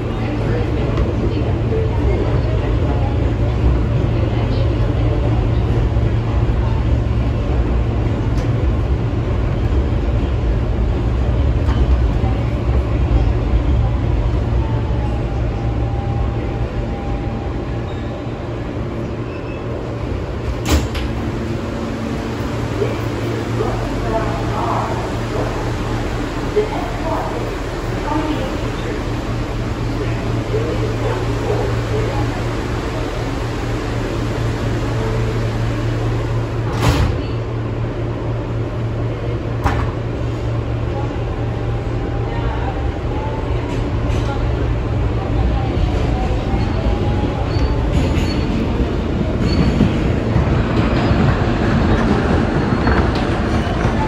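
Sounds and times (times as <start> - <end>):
subway car rumble: 0.0 - 54.0.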